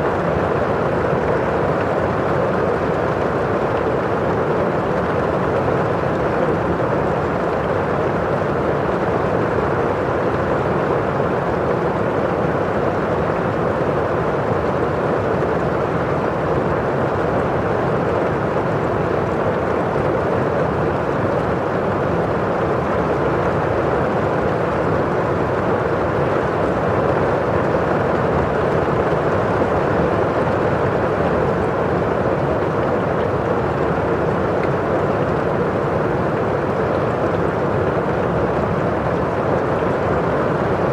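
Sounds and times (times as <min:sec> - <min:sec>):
rain on a window pane: 0:00.0 - 0:40.9.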